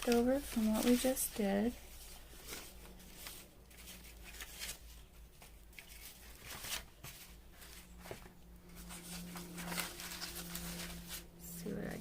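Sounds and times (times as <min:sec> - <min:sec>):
paper rustling: 0:00.0 - 0:11.3.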